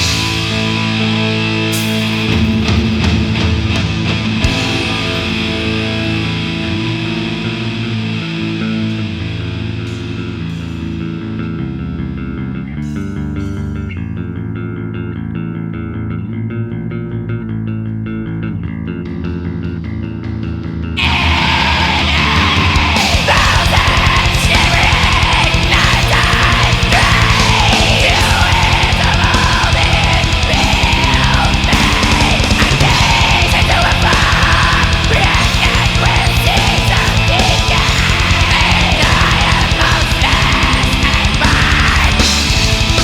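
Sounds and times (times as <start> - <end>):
metal band music: 0.0 - 16.4, 18.9 - 43.0
bass guitar passage: 0.0 - 43.0.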